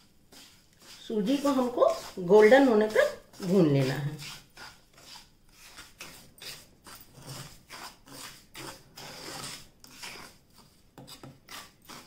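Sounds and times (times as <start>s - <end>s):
wooden spatula scraping a pan: 0.0s - 12.0s.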